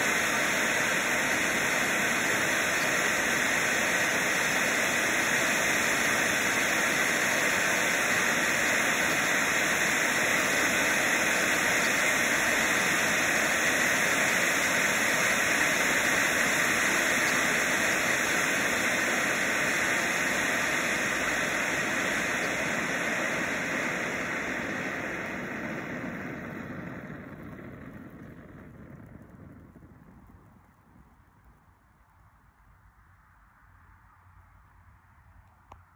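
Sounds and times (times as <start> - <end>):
firework fountain hissing: 0.0 - 32.8.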